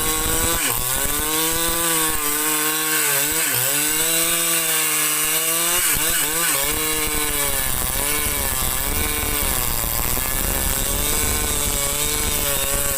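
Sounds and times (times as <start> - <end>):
chainsaw cutting wood: 0.0 - 12.9.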